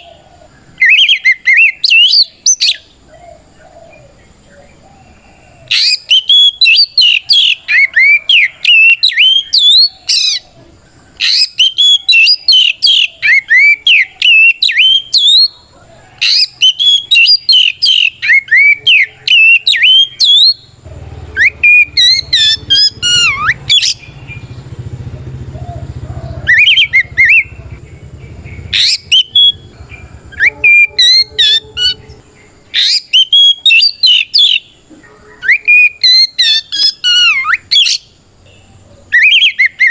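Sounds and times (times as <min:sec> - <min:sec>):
bird singing whistled song: 0:00.8 - 0:10.4, 0:11.1 - 0:24.7, 0:26.4 - 0:39.9.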